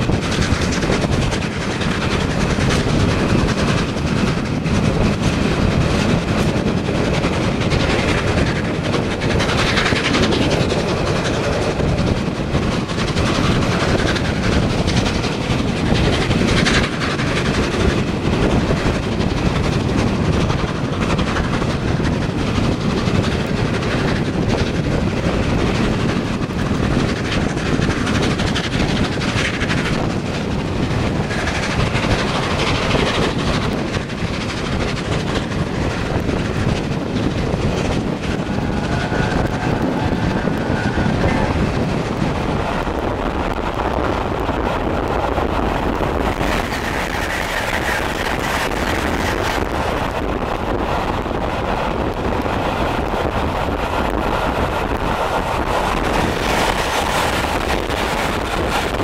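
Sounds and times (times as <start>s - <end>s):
train wheel and wind rush: 0.0s - 59.0s
wheels clickety-clack on track: 0.0s - 59.0s.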